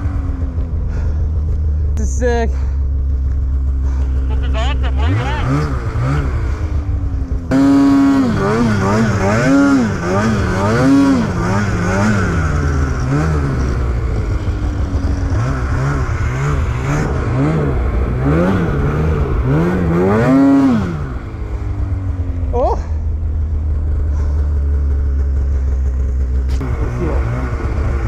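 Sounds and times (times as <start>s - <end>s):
snowmobile engine revving: 3.7s - 22.8s, 23.7s - 28.0s.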